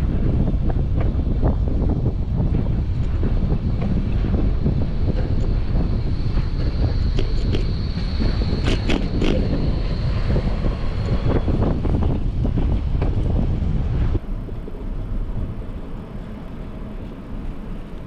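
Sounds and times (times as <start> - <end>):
road rumble: 0.0 - 18.0
wind buffeting microphone: 0.0 - 18.0.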